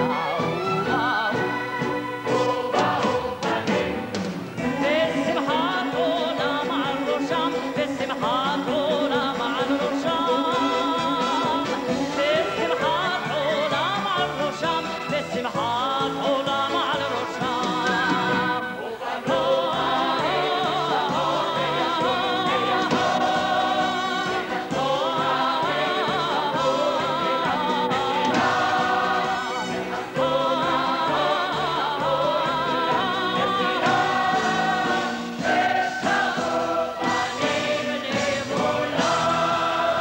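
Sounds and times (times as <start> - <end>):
woman singing with vibrato: 0.0 - 1.8, 4.6 - 35.0
choir: 0.0 - 40.0
orchestra: 0.0 - 40.0.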